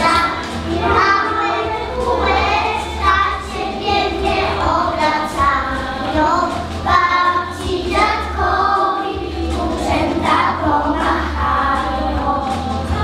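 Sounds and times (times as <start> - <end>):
backing music: 0.0 - 13.0
children singing together: 0.0 - 13.0.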